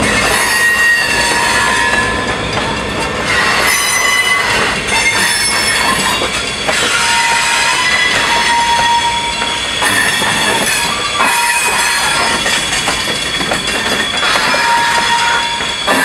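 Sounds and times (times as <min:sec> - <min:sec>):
train rumble and clatter: 0:00.0 - 0:16.0
train wheels squealing: 0:00.0 - 0:16.0.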